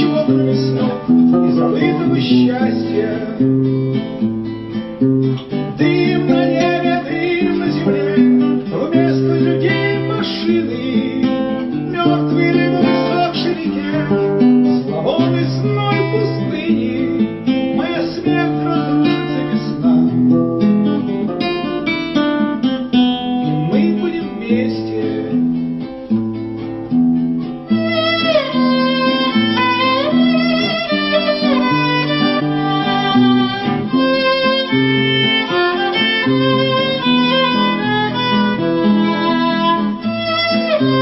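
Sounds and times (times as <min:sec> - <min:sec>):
acoustic guitar playing: 0:00.0 - 0:41.0.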